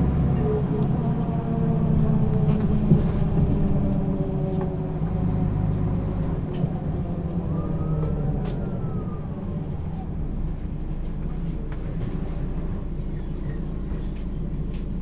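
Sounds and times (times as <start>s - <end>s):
bus diesel engine humming: 0.0s - 15.0s.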